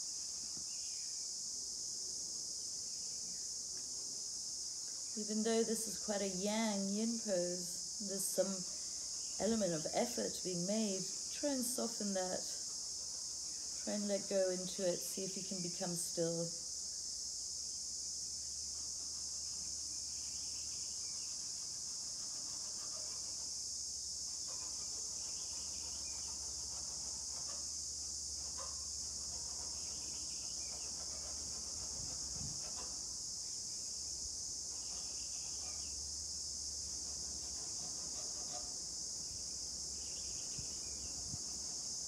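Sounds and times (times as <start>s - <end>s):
insect chorus chirring: 0.0s - 42.0s.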